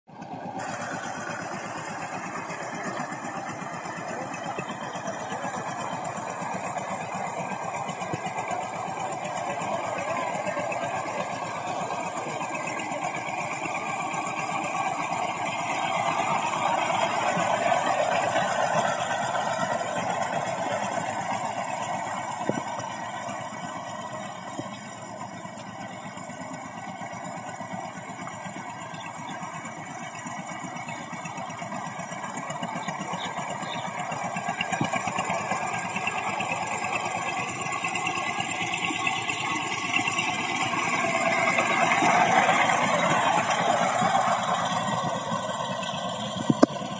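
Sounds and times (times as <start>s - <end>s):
diesel tractor engine running: 0.0s - 46.9s
wheels churning through mud: 0.1s - 46.9s.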